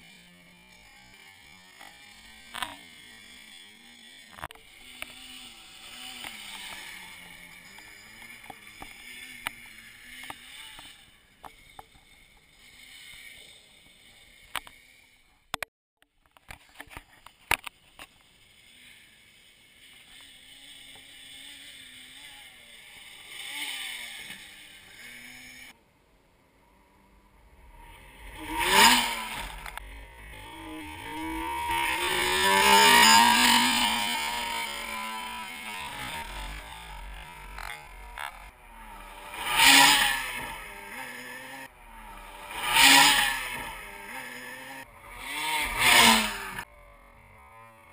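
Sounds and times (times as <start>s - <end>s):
quad bike engine revving: 0.0s - 15.7s, 16.6s - 25.8s, 26.5s - 47.9s.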